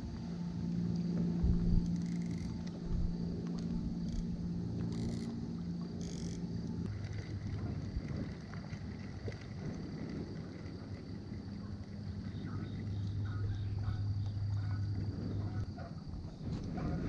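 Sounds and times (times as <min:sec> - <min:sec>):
small boat motor humming: 0:00.0 - 0:17.0.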